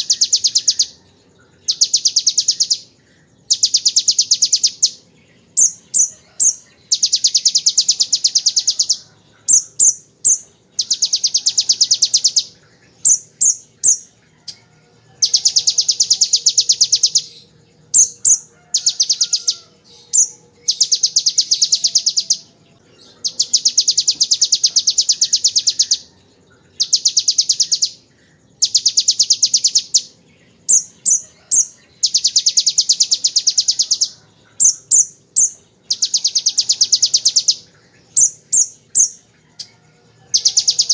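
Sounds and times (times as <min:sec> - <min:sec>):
bird trilling: 0:00.0 - 0:40.9.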